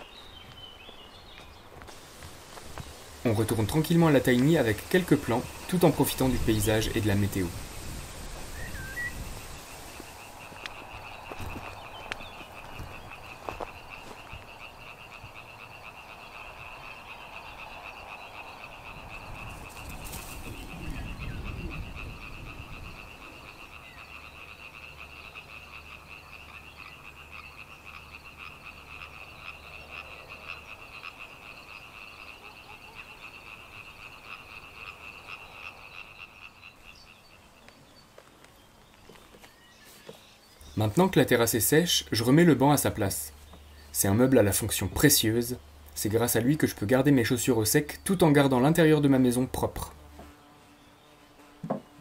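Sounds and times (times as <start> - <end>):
frogs calling: 0.0 - 52.0.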